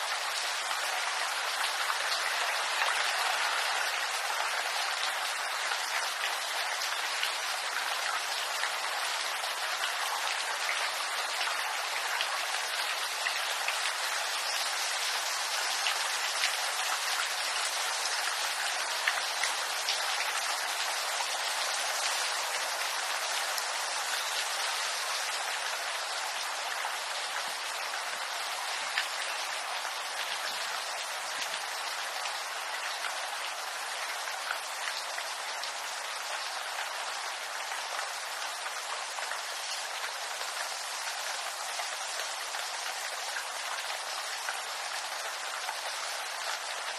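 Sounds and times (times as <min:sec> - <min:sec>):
rain on leaves: 0:00.0 - 0:46.9.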